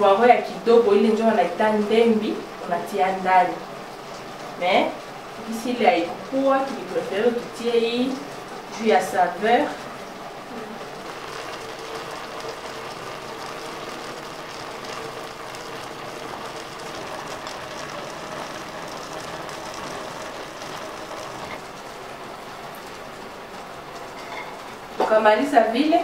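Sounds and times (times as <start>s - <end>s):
pot of vegetables boiling: 0.0s - 26.0s.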